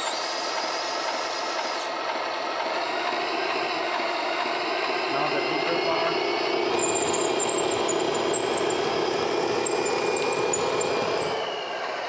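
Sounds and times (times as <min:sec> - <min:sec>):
electric gear motors whining: 0:00.0 - 0:12.0
simulated diesel engine through speaker: 0:01.4 - 0:12.0.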